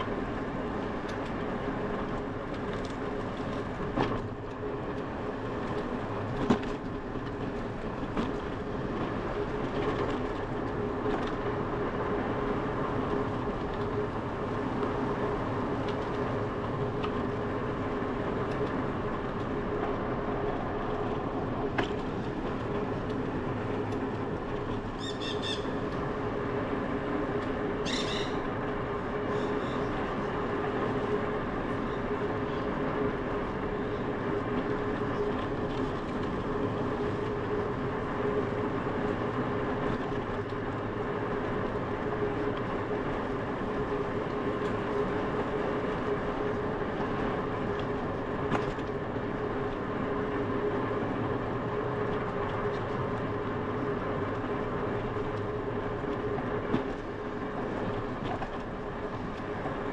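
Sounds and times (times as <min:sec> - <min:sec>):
bicycle tyres rolling on asphalt: 0:00.0 - 0:59.9.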